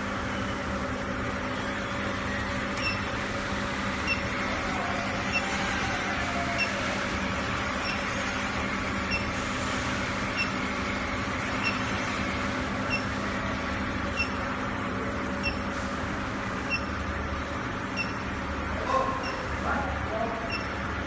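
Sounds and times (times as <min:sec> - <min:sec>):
furnace hum and hiss: 0:00.0 - 0:21.0.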